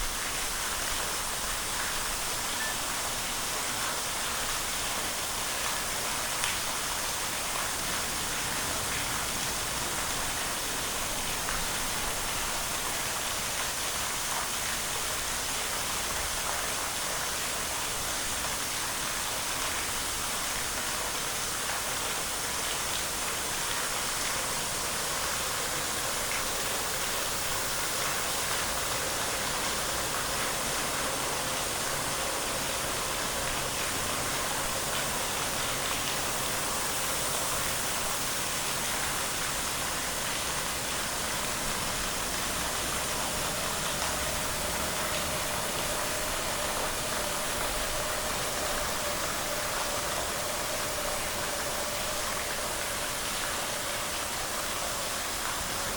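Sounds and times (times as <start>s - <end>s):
falling water rushing: 0.0s - 55.9s.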